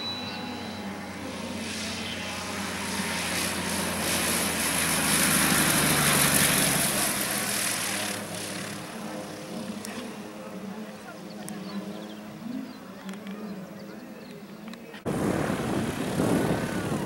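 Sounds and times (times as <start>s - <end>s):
light aircraft flying past: 0.0s - 14.2s, 15.0s - 17.0s.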